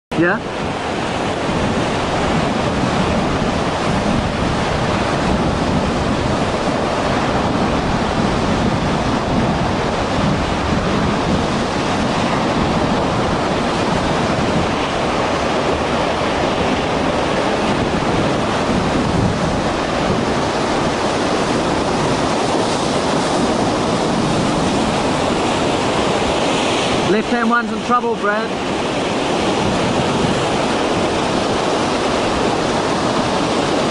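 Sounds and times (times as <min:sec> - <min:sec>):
rough sea surf: 0:00.1 - 0:33.9
wind buffeting microphone: 0:00.1 - 0:33.9
storm wind rushing: 0:00.2 - 0:33.9.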